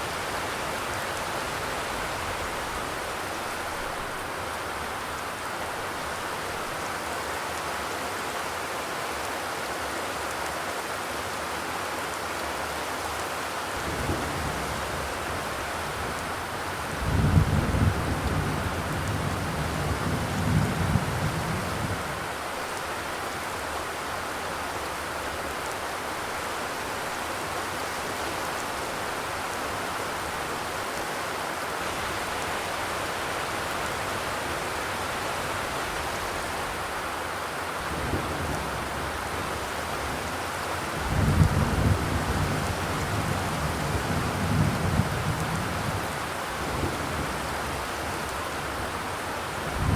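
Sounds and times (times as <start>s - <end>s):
rain on a metal roof: 0.0s - 49.9s.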